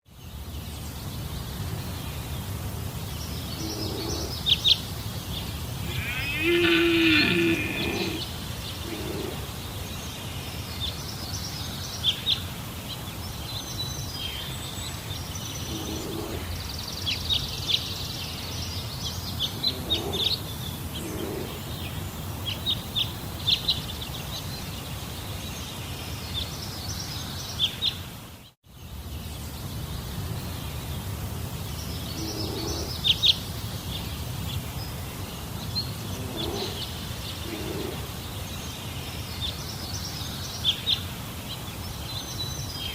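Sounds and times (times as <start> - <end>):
birds chirping: 0.3 - 24.9, 29.6 - 42.9.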